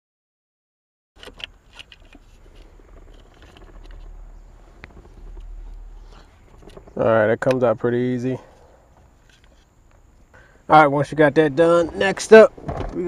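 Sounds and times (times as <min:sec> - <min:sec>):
low steady rumble: 0:01.3 - 0:13.0.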